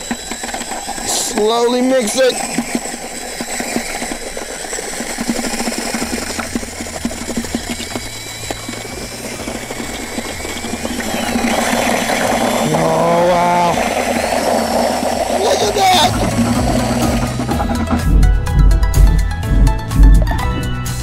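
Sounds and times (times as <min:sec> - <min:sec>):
drill motor whirring: 0:00.0 - 0:20.6
paddle knocking and scraping bucket: 0:00.0 - 0:20.8.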